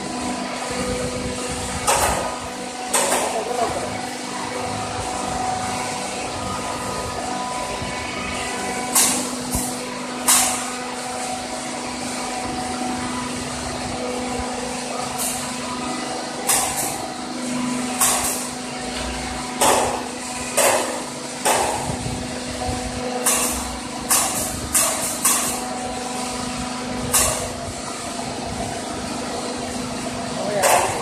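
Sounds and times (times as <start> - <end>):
furnace plant humming: 0.0 - 31.0.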